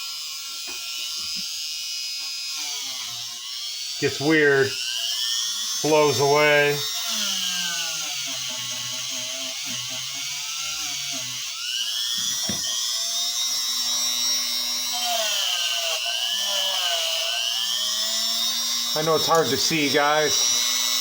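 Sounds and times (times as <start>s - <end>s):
die grinder whining on metal: 0.0s - 21.0s.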